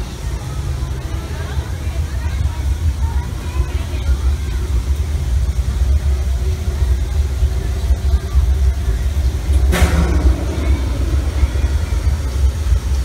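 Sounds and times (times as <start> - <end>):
steam hiss: 0.0 - 13.0
steam locomotive cab rumble: 0.0 - 13.0.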